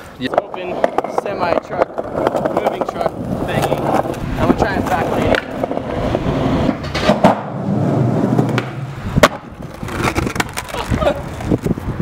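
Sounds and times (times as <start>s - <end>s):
skateboard wheels on asphalt: 0.0s - 12.0s
skateboard cracks: 0.2s - 11.9s.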